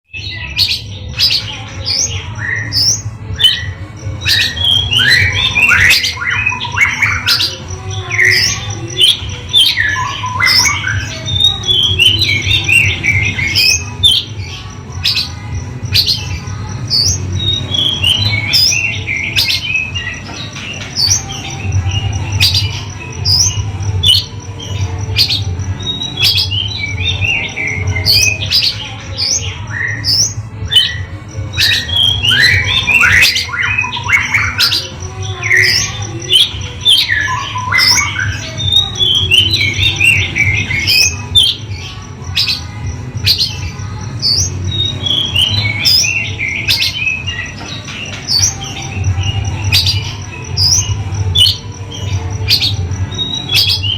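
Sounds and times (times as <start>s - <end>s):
bird singing: 0.0s - 53.9s.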